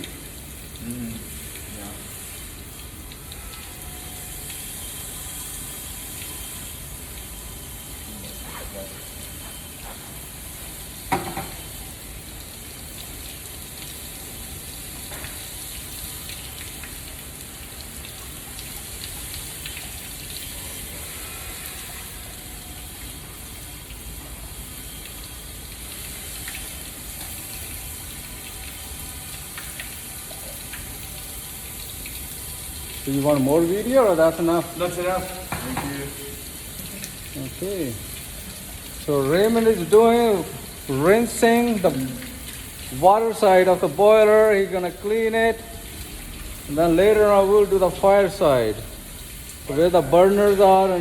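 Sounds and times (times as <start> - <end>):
hose water spraying and splashing: 0.0 - 51.0.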